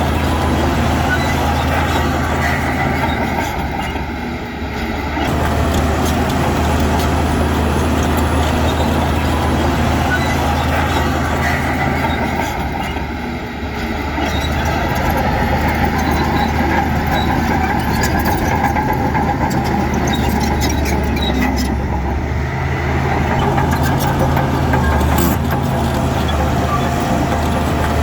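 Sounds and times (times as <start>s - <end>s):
diesel machinery running: 0.0s - 28.0s.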